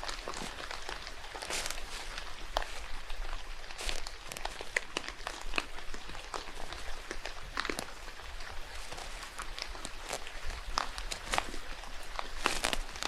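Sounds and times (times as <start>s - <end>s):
drops tapping on leaves: 0.0s - 13.0s
rain hiss: 0.0s - 13.0s.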